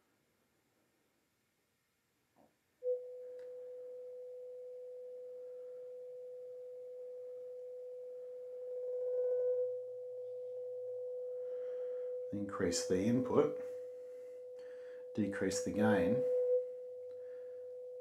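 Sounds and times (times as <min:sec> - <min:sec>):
sine wave test tone: 0:00.0 - 0:18.0.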